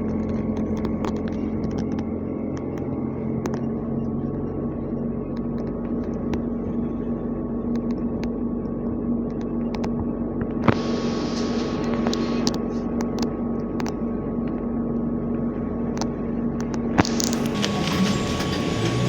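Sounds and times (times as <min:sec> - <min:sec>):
low rumble: 0:00.0 - 0:19.0
trolleybus electrical hum: 0:00.0 - 0:19.0.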